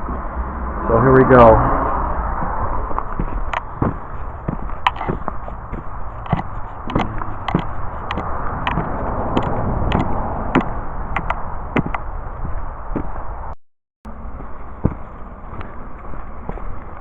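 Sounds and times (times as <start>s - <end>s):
steady low rush: 0.0s - 17.0s
footsteps on muddy trail: 1.9s - 17.0s.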